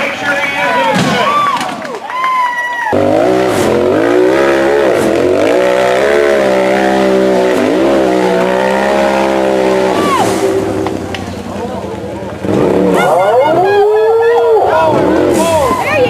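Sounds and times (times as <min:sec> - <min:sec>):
buggy engine revving hard: 0:02.9 - 0:16.0.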